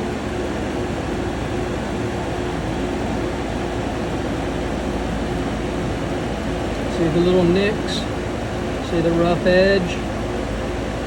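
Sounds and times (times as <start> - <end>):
motor or fan whirring: 0.0 - 11.0.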